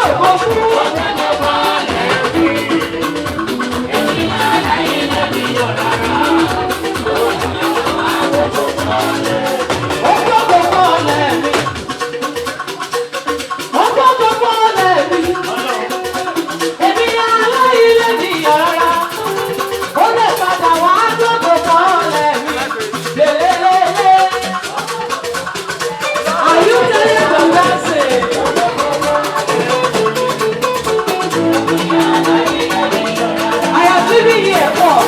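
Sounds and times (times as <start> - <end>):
gospel band music: 0.0 - 35.0
shaker rattling: 0.0 - 35.0.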